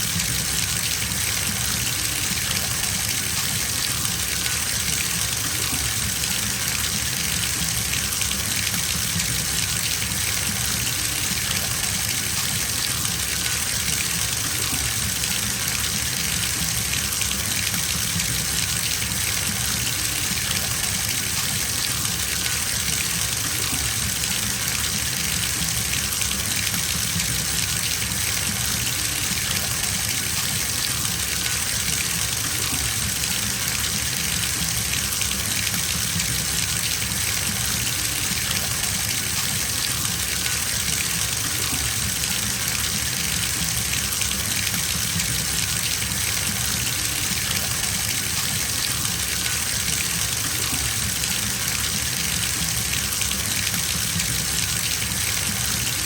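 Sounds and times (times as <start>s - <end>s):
water gushing into bathtub: 0.0s - 56.0s.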